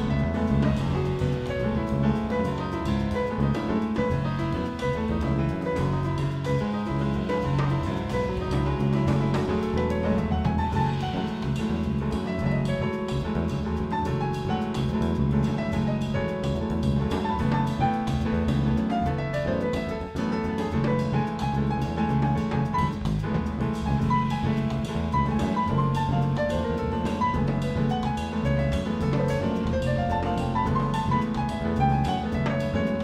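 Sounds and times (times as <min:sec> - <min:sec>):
double bass: 0:00.0 - 0:33.0
drums: 0:00.0 - 0:33.0
grand piano playing jazz: 0:00.0 - 0:33.0.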